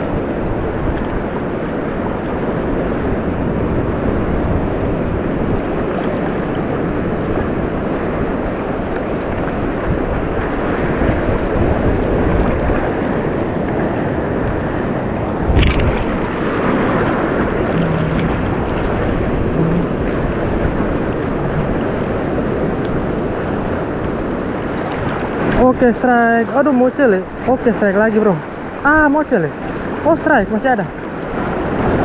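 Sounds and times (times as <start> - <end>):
wind buffeting microphone: 0.0 - 28.8
surf breaking over reef: 0.0 - 32.0.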